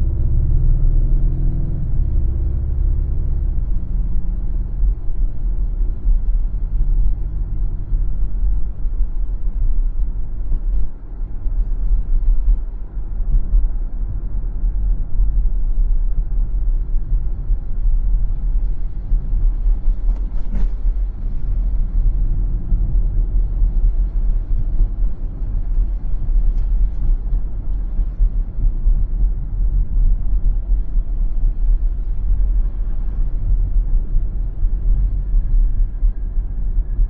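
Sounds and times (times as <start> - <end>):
car driving on road rumble: 0.0 - 37.0.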